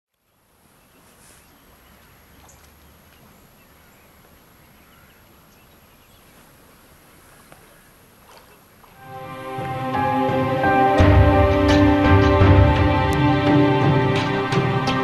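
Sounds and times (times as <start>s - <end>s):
low steady river hush: 0.1s - 15.0s.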